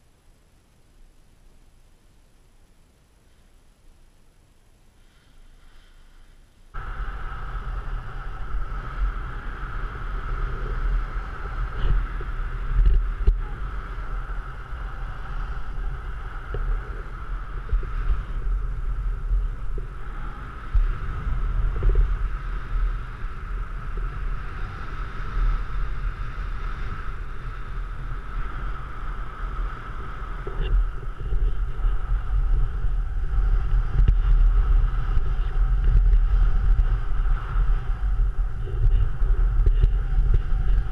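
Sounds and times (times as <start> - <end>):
wind buffeting microphone: 6.7 - 40.9.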